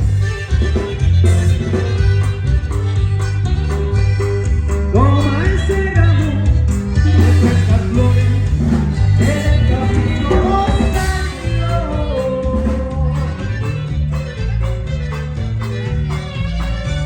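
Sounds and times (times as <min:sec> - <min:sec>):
bajo sexto strumming: 0:00.0 - 0:17.0
steady bass line: 0:00.0 - 0:17.0.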